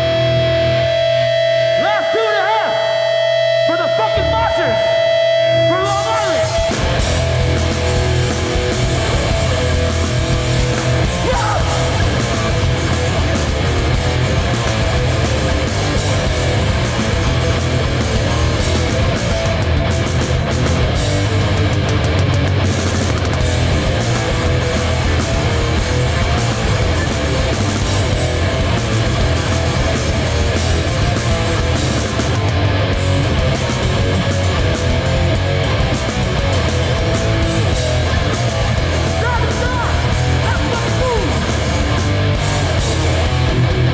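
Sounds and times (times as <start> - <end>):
punk band playing live: 0.0 - 43.9.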